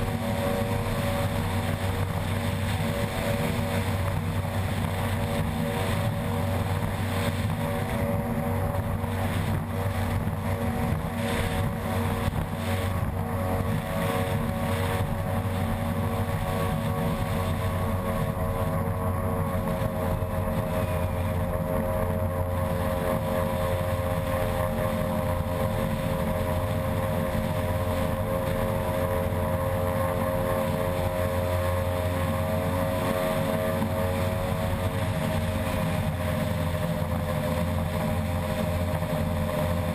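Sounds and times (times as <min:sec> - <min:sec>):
boat hull on water: 0:00.0 - 0:39.9
outboard engine running hard: 0:00.0 - 0:39.9.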